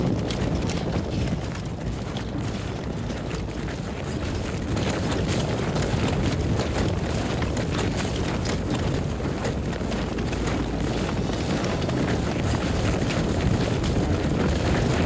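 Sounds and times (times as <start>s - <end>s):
horses galloping: 0.0s - 15.0s.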